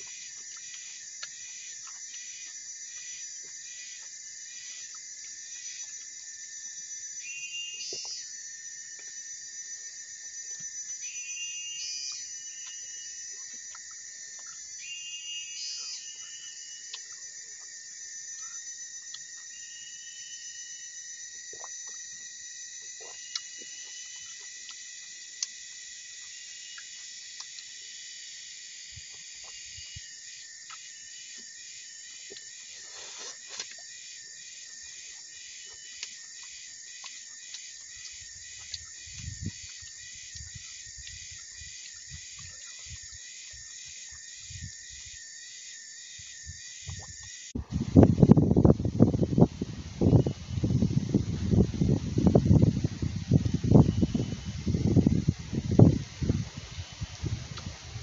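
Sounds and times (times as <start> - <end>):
high-pitched insect chorus: 0.0 - 58.0
rapid pulsed call: 6.6 - 9.0, 9.7 - 58.0.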